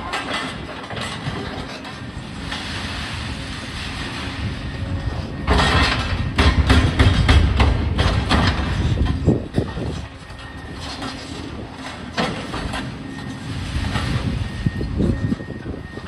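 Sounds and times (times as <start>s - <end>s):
debris crashing and clattering: 0.0s - 15.2s
demolition excavators running: 0.0s - 16.0s.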